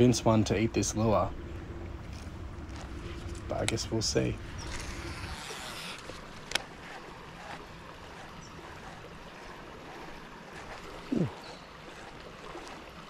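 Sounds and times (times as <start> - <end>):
river water rushing: 0.8 - 13.0.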